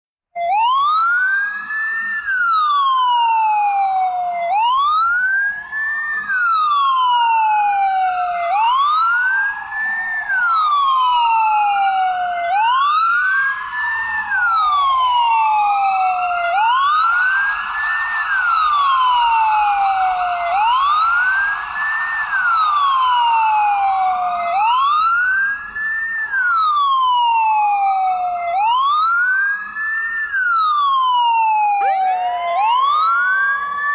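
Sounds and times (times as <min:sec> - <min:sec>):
ambulance siren wailing: 0:00.4 - 0:33.9
faint second siren wail: 0:00.4 - 0:33.9.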